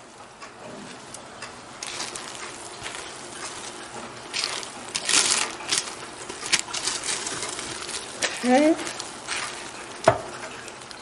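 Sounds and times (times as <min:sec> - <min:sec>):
plastic liner crinkling: 0:01.8 - 0:11.0.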